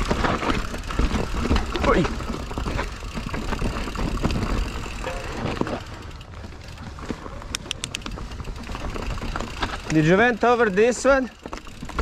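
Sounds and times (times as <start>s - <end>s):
bike rattles and knocks: 0.0s - 12.0s
mountain bike rumbling on trail: 0.0s - 12.0s.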